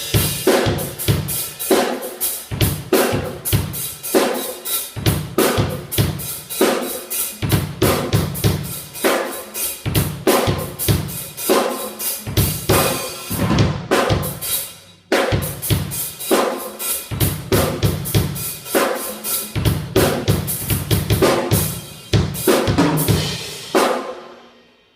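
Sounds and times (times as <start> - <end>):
drum kit playing a steady beat: 0.0 - 24.9.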